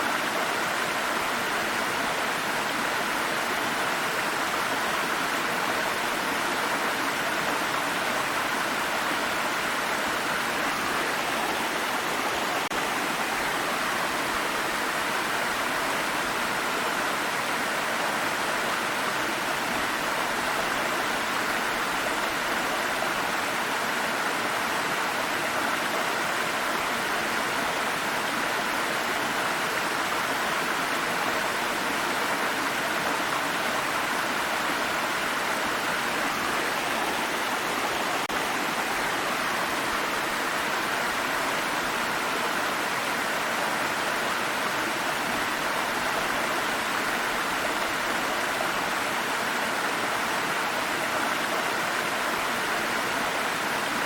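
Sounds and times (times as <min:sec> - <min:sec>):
water stream flowing: 0:00.0 - 0:54.0.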